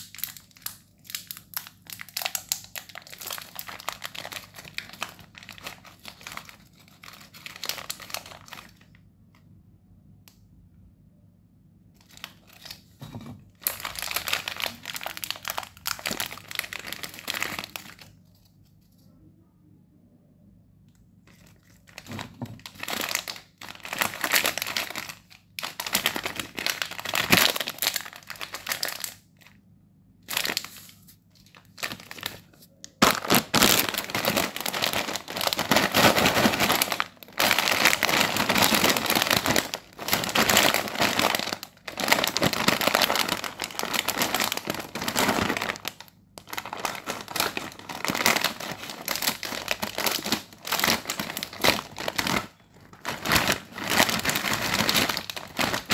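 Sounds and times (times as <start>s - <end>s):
plastic packaging crinkling: 0.0s - 9.0s, 12.0s - 19.0s, 21.2s - 29.6s, 30.2s - 55.9s.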